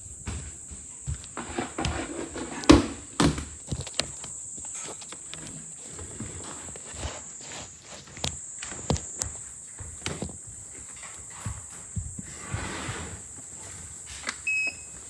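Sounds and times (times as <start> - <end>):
handling knocks and thumps: 0.0 - 12.6.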